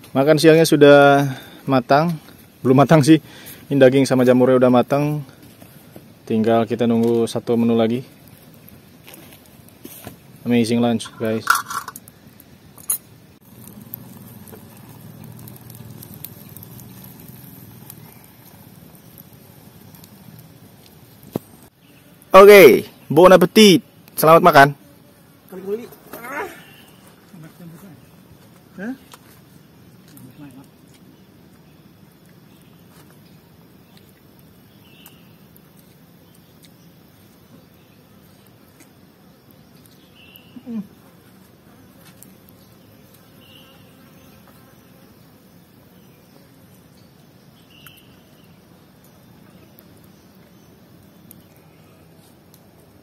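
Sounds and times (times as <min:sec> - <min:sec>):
fire rumbling and crackling: 0:00.0 - 0:24.7, 0:25.5 - 0:43.6, 0:46.7 - 0:53.0.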